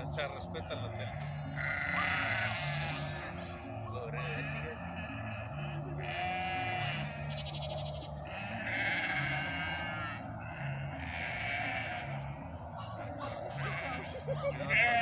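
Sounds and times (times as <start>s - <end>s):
sheep bleating: 0.0s - 15.0s.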